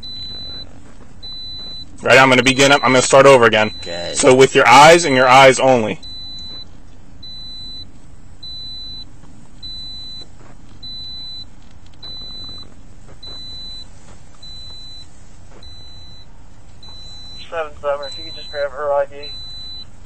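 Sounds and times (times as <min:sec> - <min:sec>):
car door warning beeps: 0:00.0 - 0:20.0
low steady rumble: 0:00.0 - 0:20.0.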